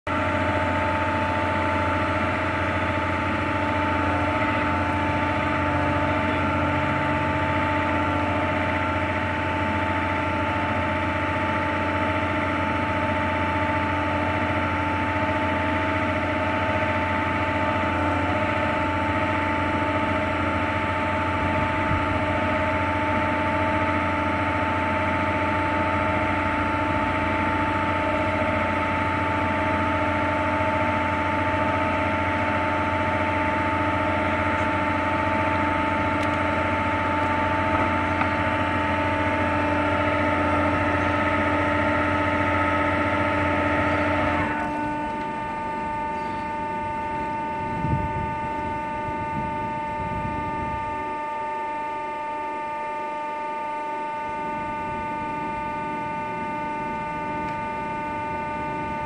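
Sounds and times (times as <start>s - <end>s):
winch machinery humming and whining: 0.1s - 59.0s.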